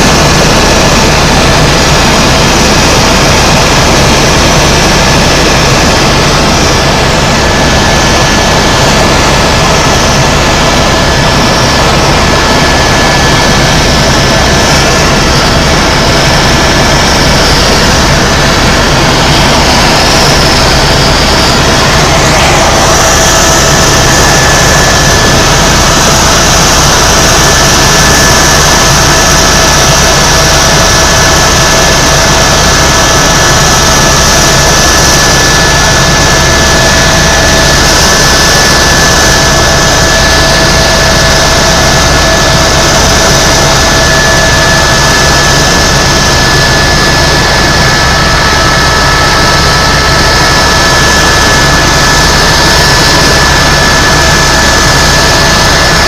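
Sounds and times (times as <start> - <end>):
helicopter engine and rotor drone: 0.0 - 56.0
high turbine whine: 0.0 - 56.0.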